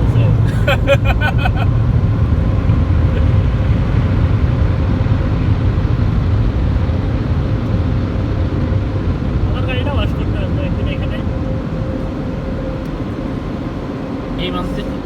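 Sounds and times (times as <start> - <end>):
car wash machinery rumbling: 0.0 - 15.0.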